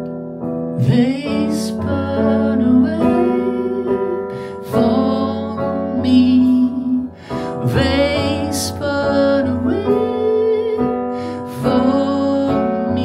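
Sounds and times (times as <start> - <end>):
electric keyboard chords: 0.0 - 13.0
man singing: 0.8 - 13.0.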